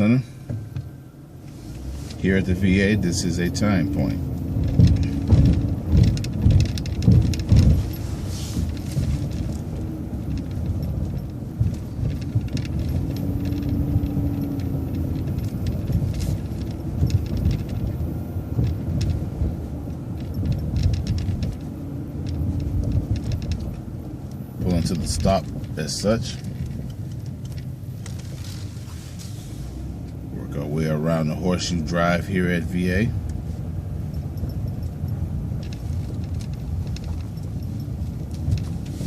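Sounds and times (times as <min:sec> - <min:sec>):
bus engine and road drone: 0:00.0 - 0:39.0
rattles and clicks of bus fittings: 0:00.0 - 0:39.0.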